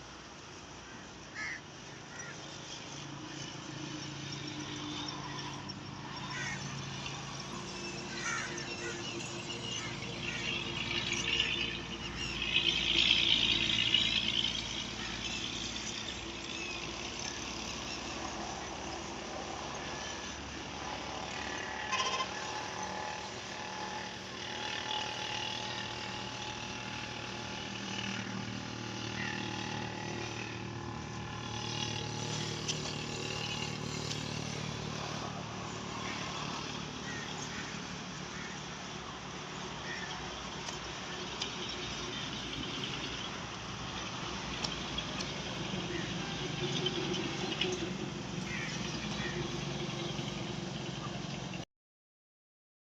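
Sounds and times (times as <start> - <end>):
road traffic passing: 0.0 - 51.6.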